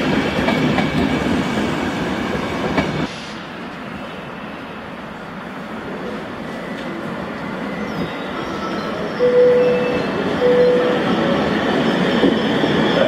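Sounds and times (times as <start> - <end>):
train wheels rumbling on rails: 0.0 - 4.3, 5.6 - 13.0.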